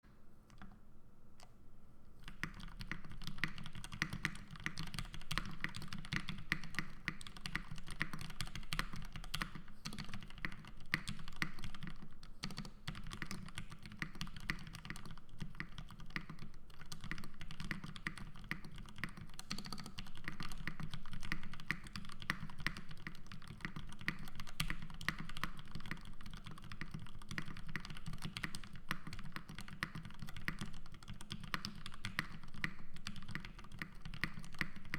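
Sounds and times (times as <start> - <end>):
mechanical keyboard typing: 2.2 - 34.9.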